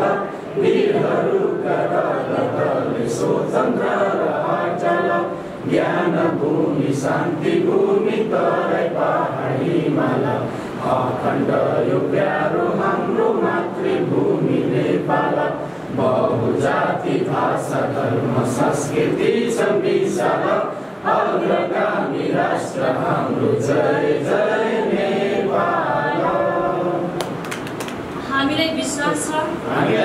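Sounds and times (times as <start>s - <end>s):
group singing in unison: 0.0s - 28.1s, 29.6s - 30.0s.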